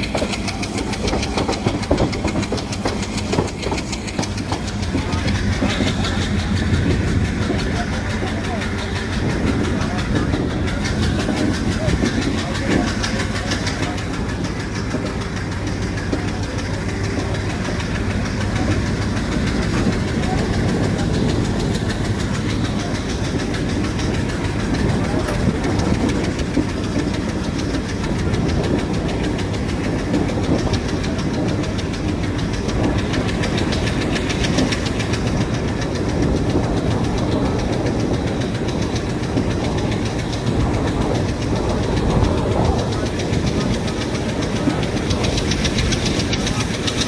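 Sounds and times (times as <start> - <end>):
train rumble: 0.0 - 47.0
train wheels clattering over rails: 0.0 - 47.0.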